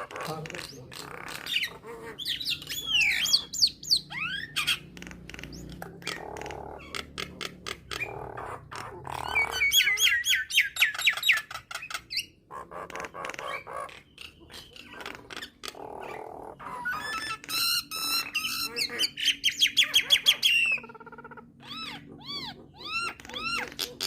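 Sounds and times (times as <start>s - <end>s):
bird singing varied song: 0.0s - 24.0s.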